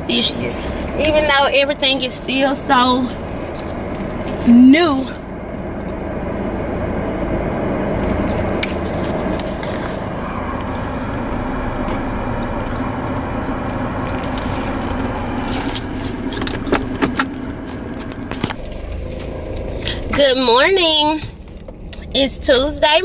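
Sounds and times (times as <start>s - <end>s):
car cabin engine and road hum: 0.0s - 23.0s.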